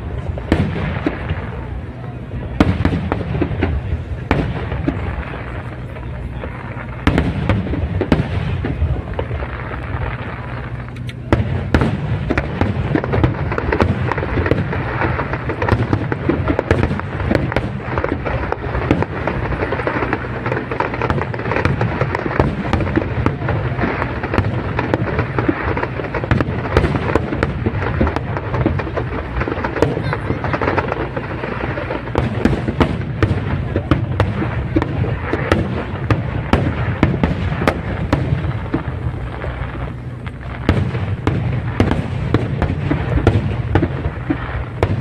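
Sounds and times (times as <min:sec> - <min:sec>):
firework shell bursts and crackling: 0:00.0 - 0:45.0
low rumbling booms: 0:00.0 - 0:45.0.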